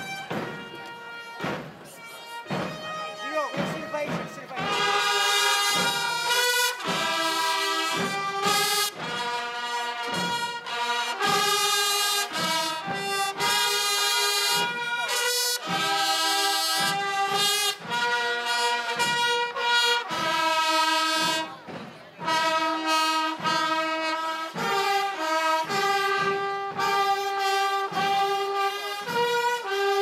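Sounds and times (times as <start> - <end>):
brass band playing: 0.0 - 30.0.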